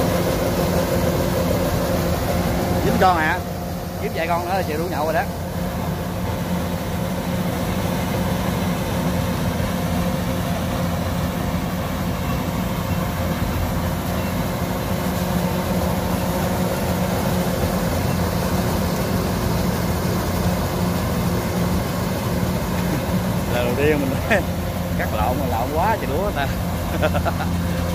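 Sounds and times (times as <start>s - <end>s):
combine harvester engine drone: 0.0s - 27.9s.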